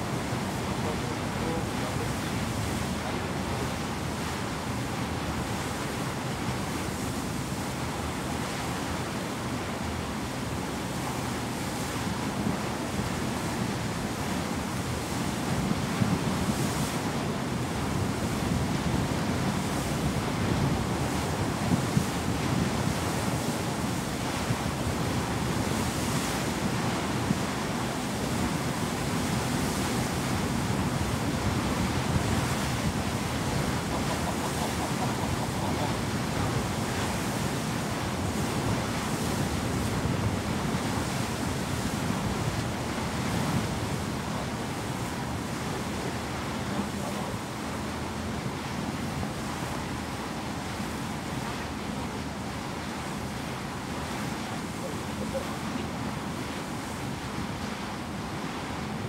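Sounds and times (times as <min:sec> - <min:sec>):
sea water rushing at bow: 0:00.0 - 0:59.0.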